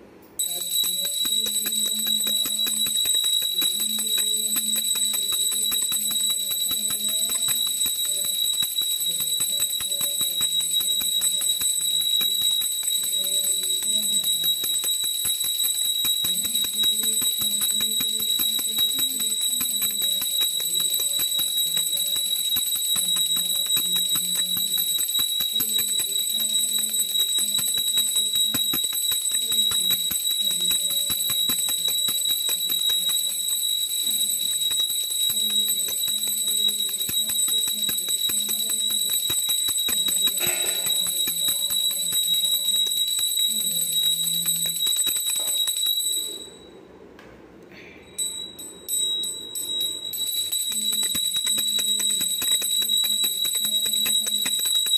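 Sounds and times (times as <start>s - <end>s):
hand bell ringing rapidly: 0.4s - 46.5s, 48.2s - 54.9s.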